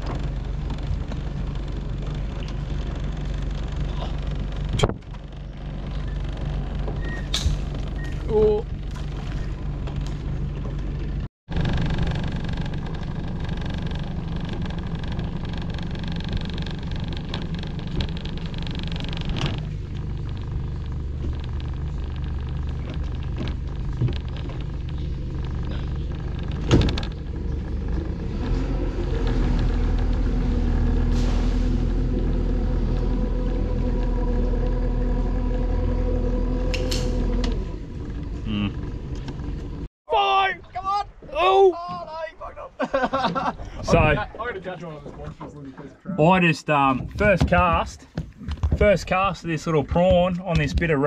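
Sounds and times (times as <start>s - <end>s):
engine rumbling: 0.0s - 51.0s.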